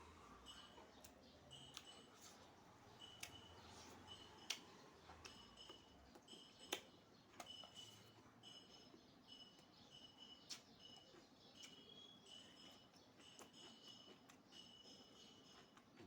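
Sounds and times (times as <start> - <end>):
faint high-pitched chirping tone: 2.8 - 15.7.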